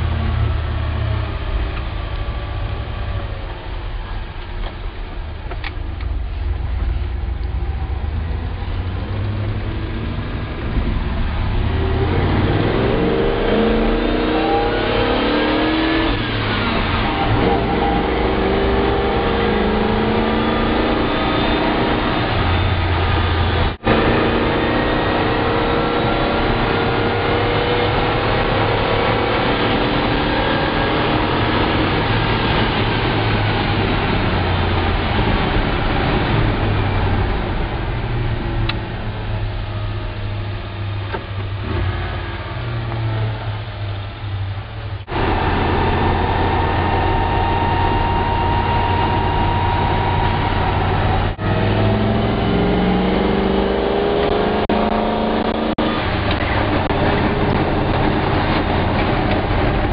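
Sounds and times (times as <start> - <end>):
road noise: 0.0 - 59.9
truck engine accelerating: 0.0 - 59.9.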